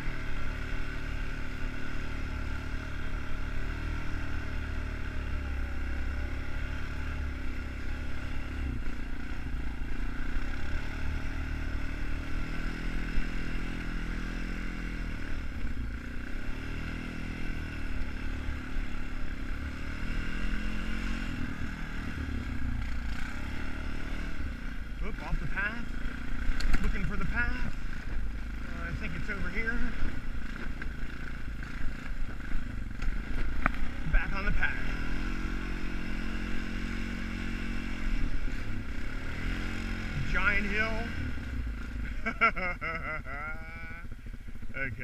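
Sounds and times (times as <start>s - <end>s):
atv engine revving under load: 0.0s - 45.0s.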